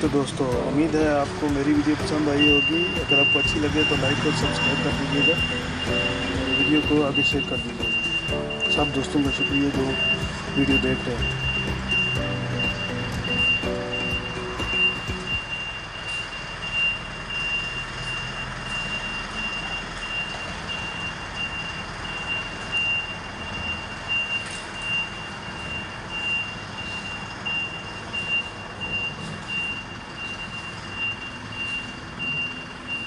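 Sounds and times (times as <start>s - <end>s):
reversing alarm beeping: 0.0s - 33.0s
traffic noise: 0.0s - 33.0s
truck engine running: 0.0s - 33.0s.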